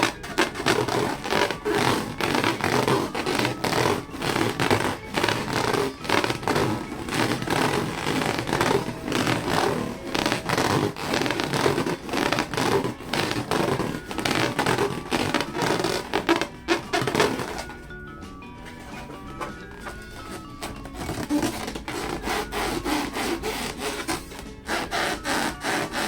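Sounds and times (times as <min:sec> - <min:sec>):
balloons being rubbed: 0:00.0 - 0:17.9, 0:18.8 - 0:26.0.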